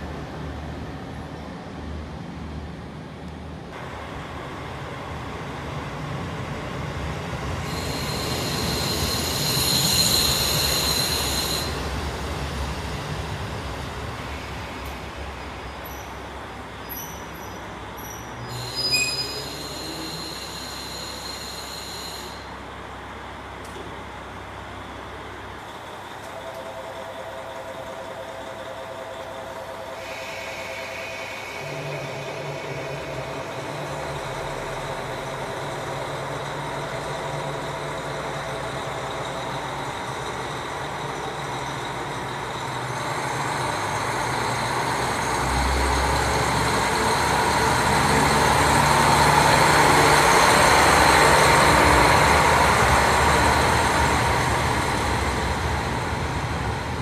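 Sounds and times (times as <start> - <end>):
diesel railcar engine drone: 0.0 - 57.0.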